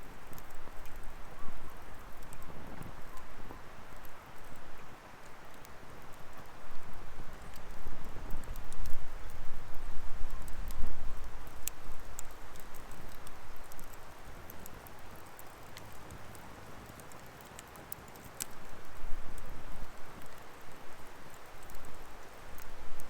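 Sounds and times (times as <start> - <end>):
firewood crackling and popping: 0.0 - 23.0.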